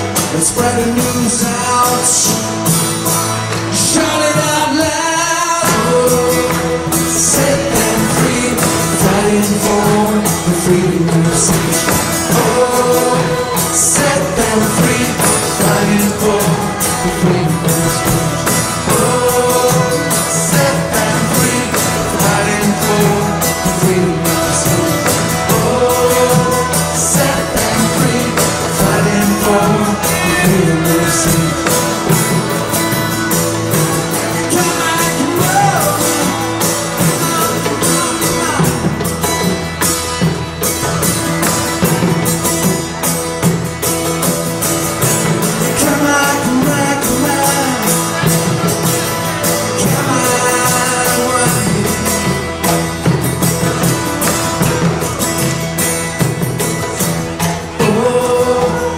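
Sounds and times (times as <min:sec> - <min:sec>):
person singing: 0:00.0 - 0:43.0, 0:44.2 - 0:58.9
hand percussion beat: 0:00.0 - 0:58.9
strummed acoustic guitar: 0:00.0 - 0:58.9.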